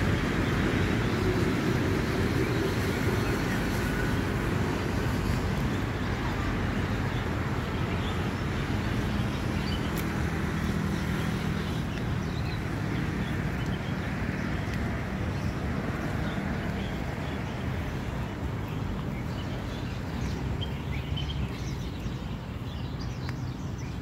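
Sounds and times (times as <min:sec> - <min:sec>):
low rumble of road traffic: 0:00.0 - 0:24.0.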